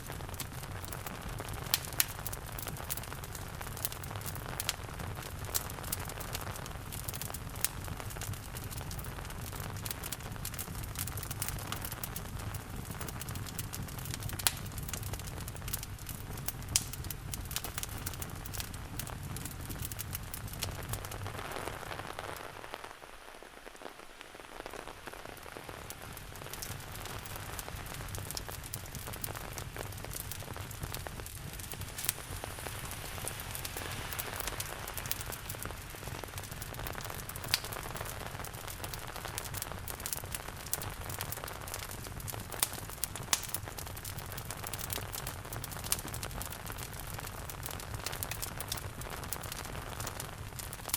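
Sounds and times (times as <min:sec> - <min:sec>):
steady rain falling: 0:00.0 - 0:50.9
wood fire crackling: 0:00.0 - 0:50.9.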